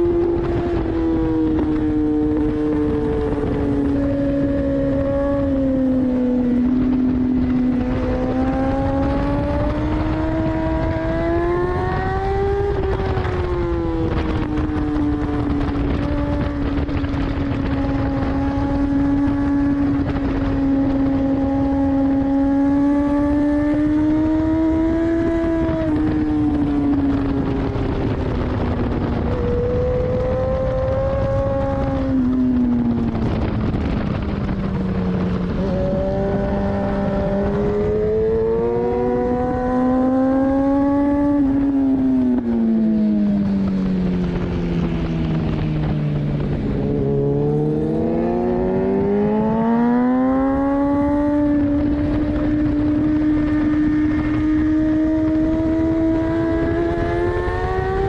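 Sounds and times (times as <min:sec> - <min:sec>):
motorcycle engine racing: 0:00.0 - 0:58.0.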